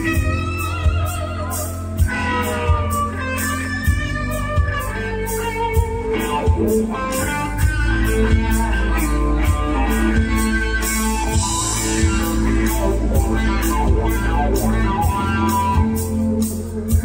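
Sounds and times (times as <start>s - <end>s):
bass: 0.0s - 17.0s
electric guitar: 0.0s - 17.0s.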